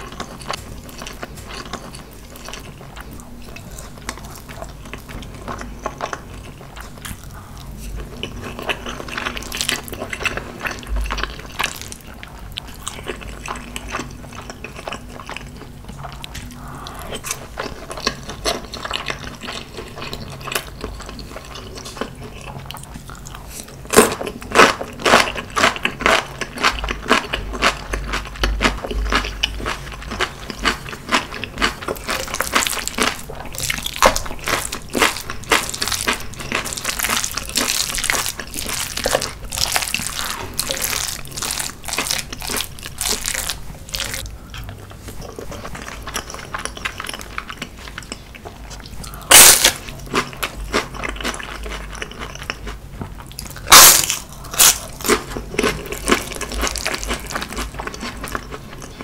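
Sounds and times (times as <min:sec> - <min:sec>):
wet chewing and mouth clicks: 0:00.0 - 0:59.0.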